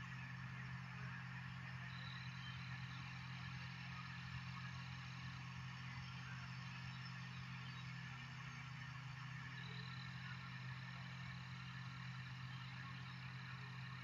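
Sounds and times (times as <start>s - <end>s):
distant aircraft engine drone: 0.0s - 14.0s.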